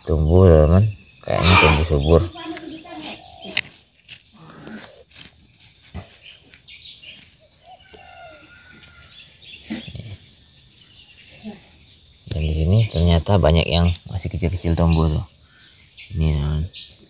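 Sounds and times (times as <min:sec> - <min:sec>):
faint bird calls: 0:00.0 - 0:17.0
high insect drone: 0:00.0 - 0:17.0.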